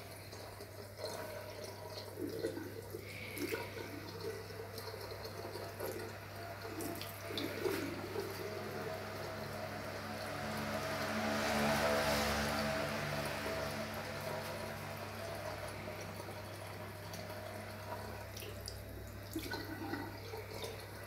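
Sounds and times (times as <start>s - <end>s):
small water splashes: 0.0s - 21.0s
tap water running into sink: 0.0s - 21.0s.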